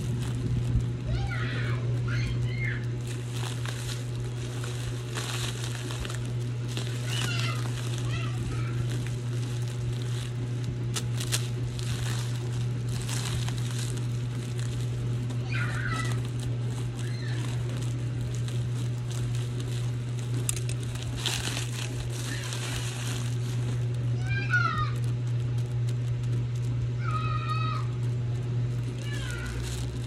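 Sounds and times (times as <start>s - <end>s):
plastic bags crinkling: 0.0s - 30.0s
steady low hum: 0.0s - 30.0s.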